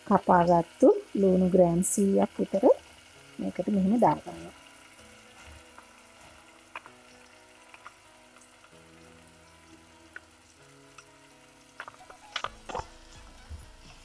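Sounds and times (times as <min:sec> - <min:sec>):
onions sizzling in butter: 0:00.0 - 0:14.0.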